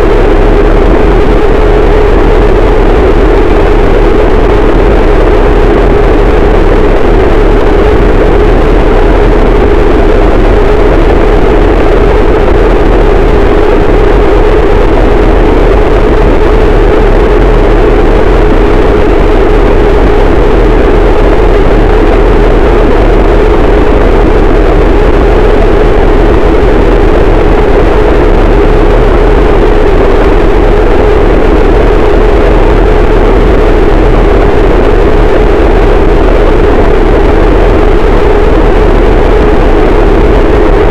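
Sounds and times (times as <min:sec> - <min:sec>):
wall of distorted noise: 0:00.0 - 0:40.9.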